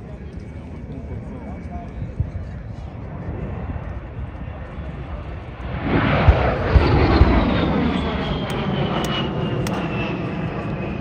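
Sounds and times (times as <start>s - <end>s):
aircraft passing overhead: 0.0s - 11.0s.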